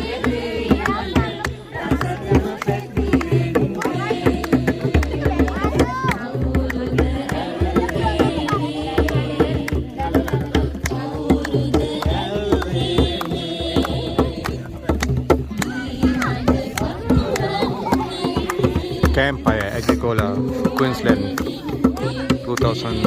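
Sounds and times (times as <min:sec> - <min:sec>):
hand drumming: 0:00.0 - 0:23.0.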